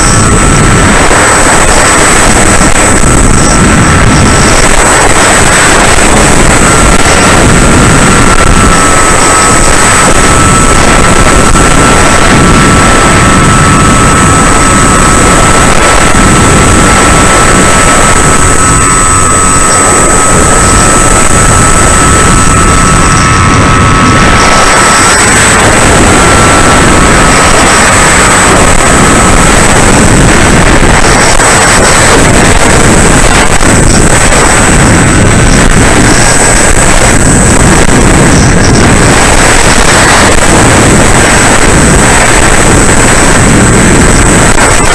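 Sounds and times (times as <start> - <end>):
electric motor whining: 0.0 - 44.9
wind rush: 0.0 - 44.9.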